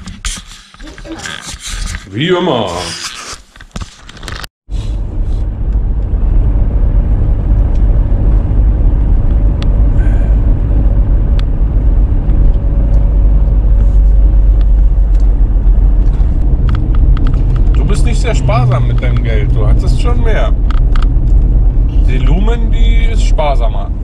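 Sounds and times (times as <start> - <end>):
van engine and road rumble: 3.6 - 24.0.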